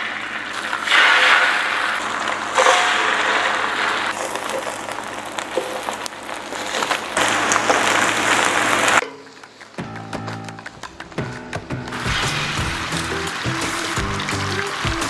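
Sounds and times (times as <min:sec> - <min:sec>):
egg sizzling on griddle: 0:00.0 - 0:09.7, 0:10.8 - 0:15.0.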